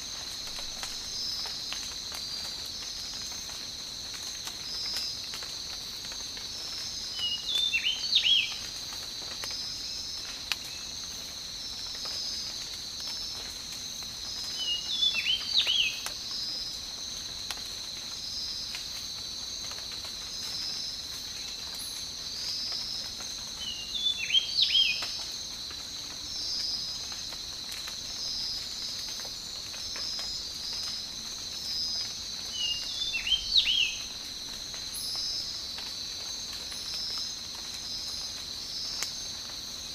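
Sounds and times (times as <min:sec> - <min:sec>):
insects pulsing: 0:00.0 - 0:39.9
insects trilling: 0:00.0 - 0:39.9.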